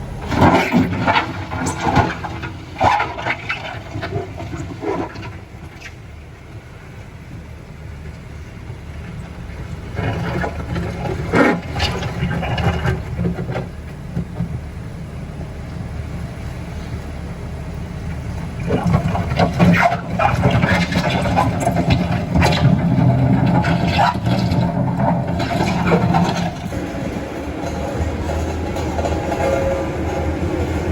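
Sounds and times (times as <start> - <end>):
vehicle engine climbing slope: 0.0 - 30.9.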